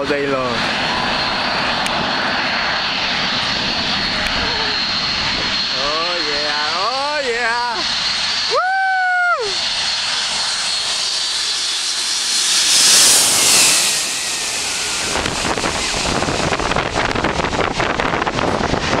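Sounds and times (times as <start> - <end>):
jet plane passing overhead: 0.0 - 19.0.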